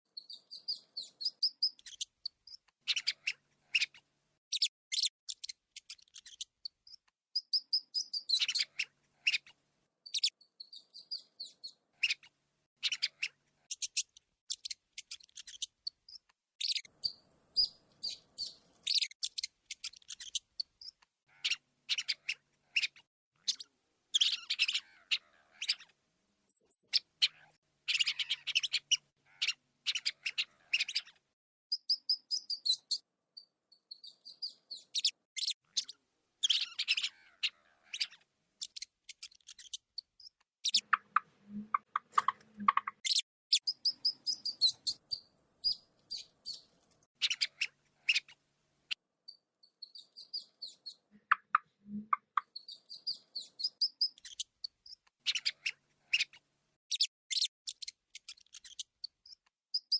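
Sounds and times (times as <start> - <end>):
rats squeaking: 0.1 - 25.9, 26.5 - 59.9.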